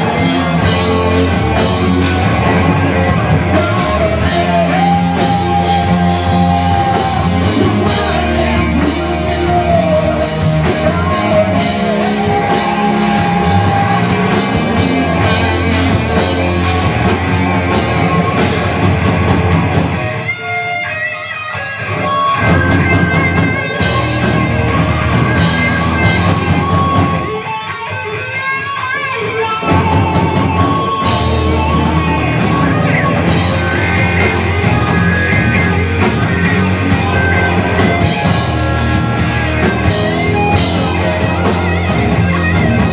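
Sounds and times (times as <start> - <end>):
electric guitar line alone: 0.0 - 42.9
rock band playing live: 0.0 - 42.9.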